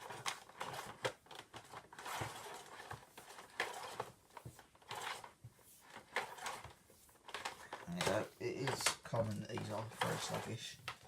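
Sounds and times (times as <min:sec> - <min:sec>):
cable rustling and scraping: 0:00.0 - 0:11.0.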